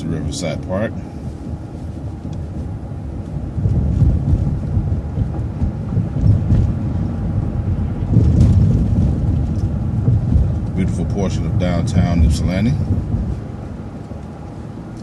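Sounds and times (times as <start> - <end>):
bus rumbling from inside: 0.0 - 15.0.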